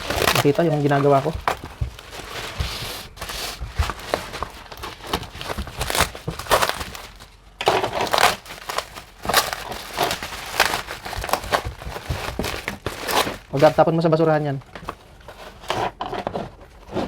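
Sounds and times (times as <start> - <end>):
plastic packaging crinkling: 0.0 - 15.7.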